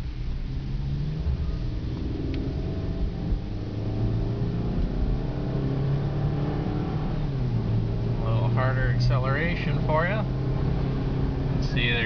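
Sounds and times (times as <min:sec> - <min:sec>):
car engine accelerating: 0:00.0 - 0:12.0
road rumble: 0:00.0 - 0:12.0.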